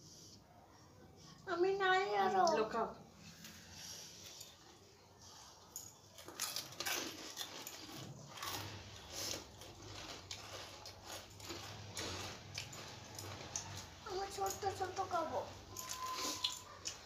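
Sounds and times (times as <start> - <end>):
people eating crunching: 3.2 - 17.0.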